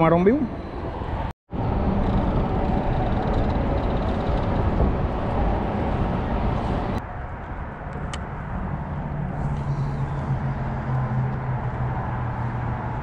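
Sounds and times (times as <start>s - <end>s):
road traffic rushing: 0.0s - 13.0s.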